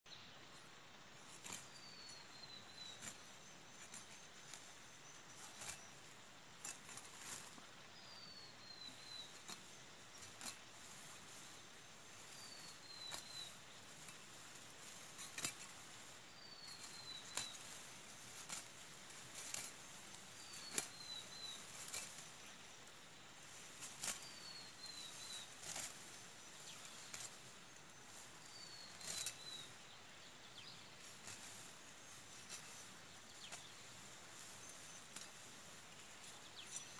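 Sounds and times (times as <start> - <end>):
sickle cutting dry grass: 0.6 - 36.9.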